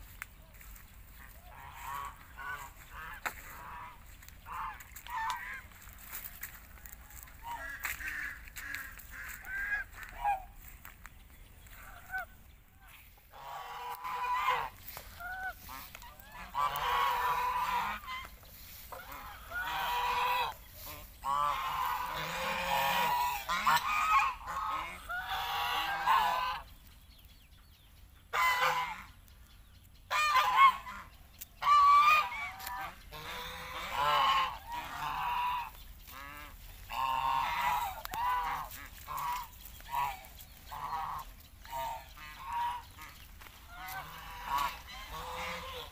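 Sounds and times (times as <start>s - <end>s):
geese honking: 0.0s - 27.0s, 28.2s - 45.9s.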